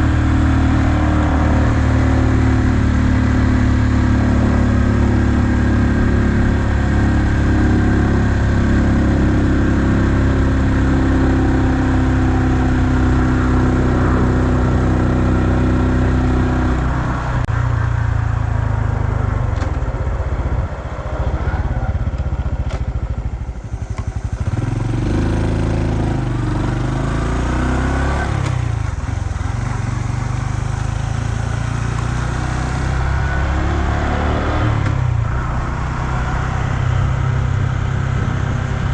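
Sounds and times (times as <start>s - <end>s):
motorcycle engine running: 0.0s - 38.9s
road noise: 0.0s - 38.9s
wind: 0.0s - 38.9s.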